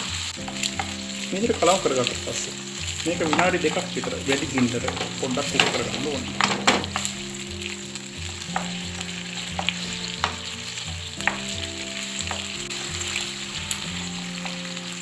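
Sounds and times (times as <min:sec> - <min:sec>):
vegetables sizzling in pan: 0:00.0 - 0:15.0
spatula knocking pan: 0:00.4 - 0:14.7.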